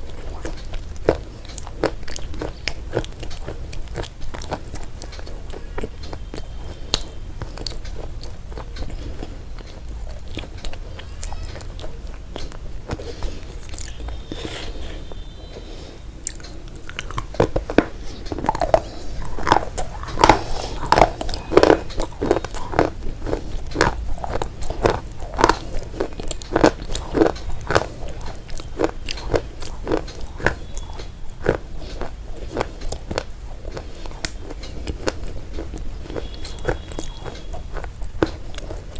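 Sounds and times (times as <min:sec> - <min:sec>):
crunchy food chewing: 0:00.0 - 0:38.9.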